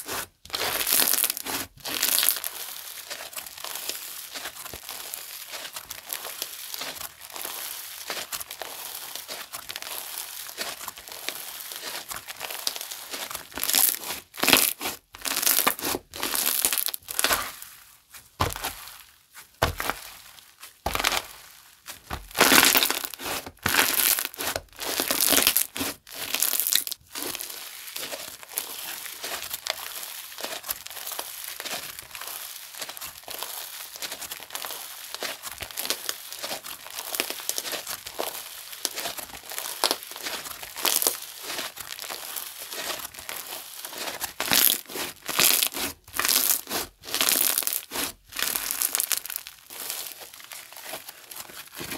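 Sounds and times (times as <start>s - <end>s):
slime crackling: 0.0s - 17.8s, 18.4s - 51.9s
crunchy slime squishing: 0.0s - 51.9s.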